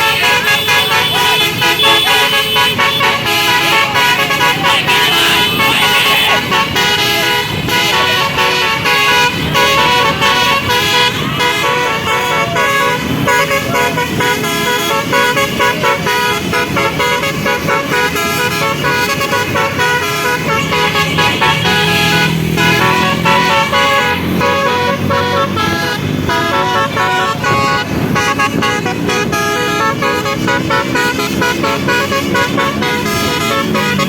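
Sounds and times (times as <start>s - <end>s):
low road noise: 0.0s - 34.0s
vehicle melody horn: 0.0s - 34.0s.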